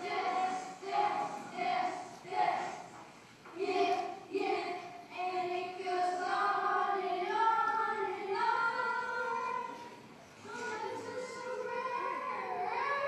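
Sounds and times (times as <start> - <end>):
children singing long notes: 0.0 - 3.0, 3.6 - 13.0.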